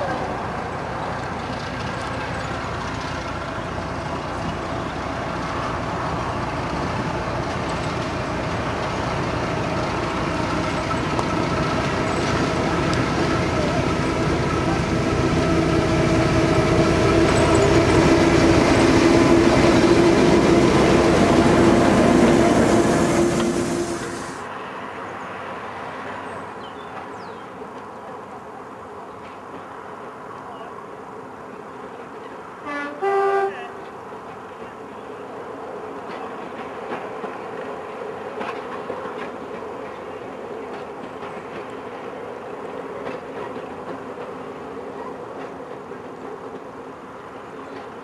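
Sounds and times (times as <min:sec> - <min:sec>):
diesel locomotive engine drone: 0:00.0 - 0:26.6, 0:27.6 - 0:48.0.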